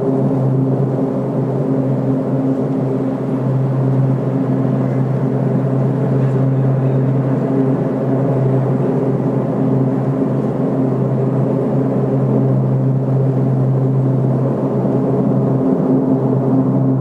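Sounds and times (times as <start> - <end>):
low droning hum from sky: 0.0 - 17.0.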